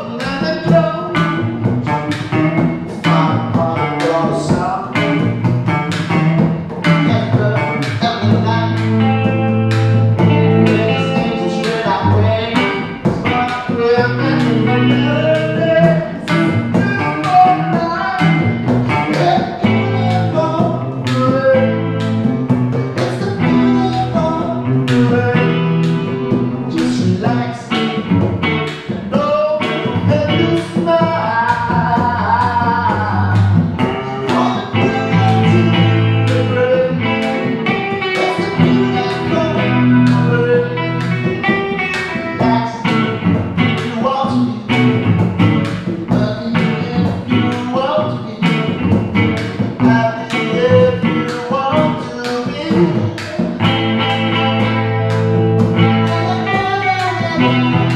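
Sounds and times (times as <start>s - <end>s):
acoustic guitar strumming: 0.0s - 57.9s
electric guitar playing: 0.0s - 57.9s
man singing: 0.0s - 57.9s.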